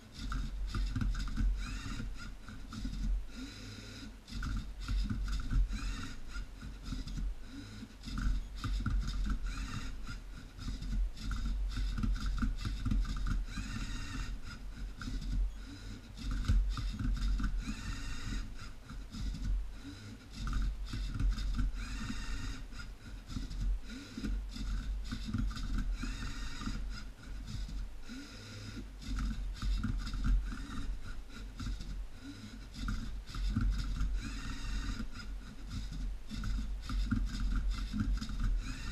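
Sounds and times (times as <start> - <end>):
plastic gears rattling and scraping: 0.0 - 3.2, 4.3 - 27.8, 28.8 - 32.0, 32.7 - 38.9
servo motors whirring: 0.0 - 38.9.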